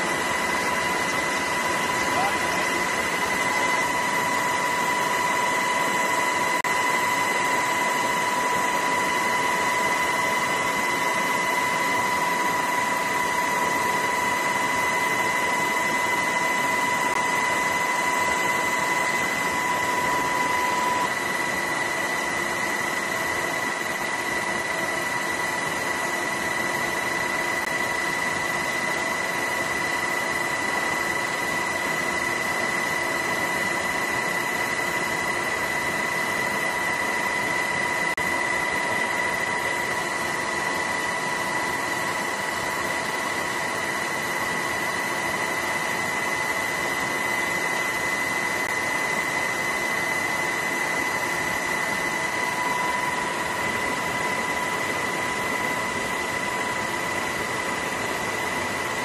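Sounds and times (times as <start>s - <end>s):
aircraft engine rush and whine: 0.0s - 59.0s.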